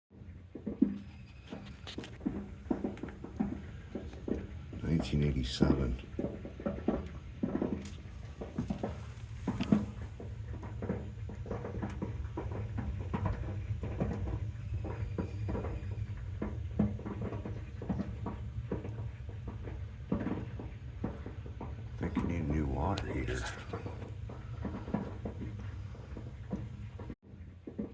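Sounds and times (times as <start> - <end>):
water heater crackling and popping: 0.1 - 27.9
steady low hum: 0.2 - 27.7.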